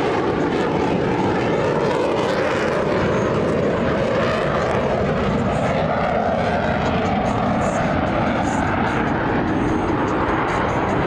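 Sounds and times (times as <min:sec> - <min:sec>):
jets passing overhead: 0:00.0 - 0:11.0.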